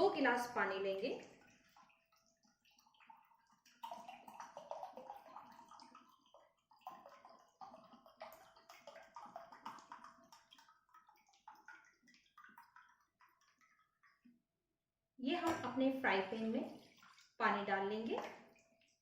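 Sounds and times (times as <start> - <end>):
water trickling and splashing: 0.0 - 14.4, 15.3 - 19.0.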